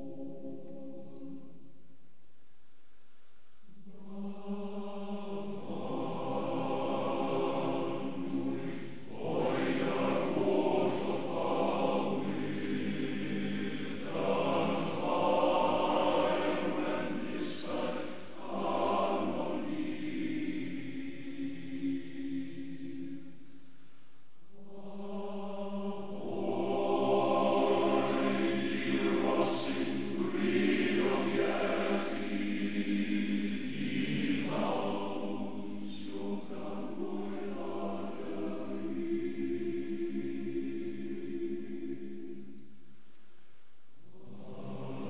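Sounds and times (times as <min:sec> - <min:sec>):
choir singing sustained chords: 0:00.0 - 0:02.1, 0:03.1 - 0:45.0.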